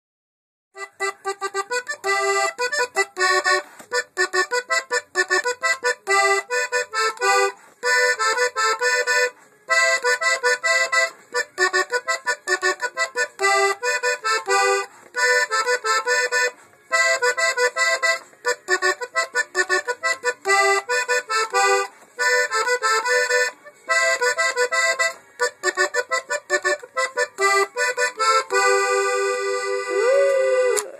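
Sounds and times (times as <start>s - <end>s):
button accordion tune: 0.8s - 30.9s.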